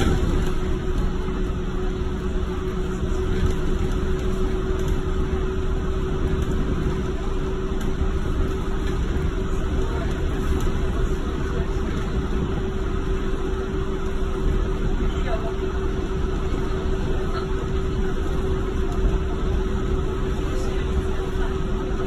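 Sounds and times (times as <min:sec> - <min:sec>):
steady hum: 0:00.0 - 0:22.0
train ride rumble: 0:00.0 - 0:22.0.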